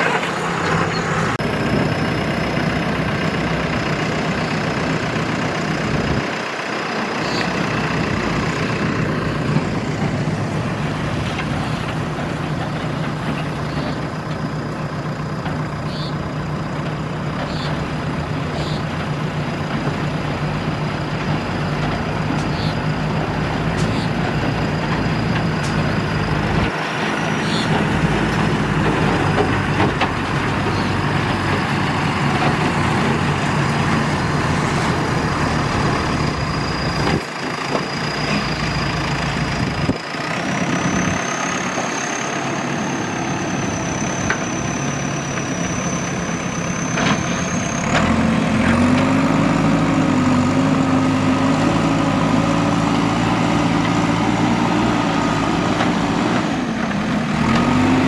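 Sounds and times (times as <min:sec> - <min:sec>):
diesel engines running: 0:00.0 - 0:58.0.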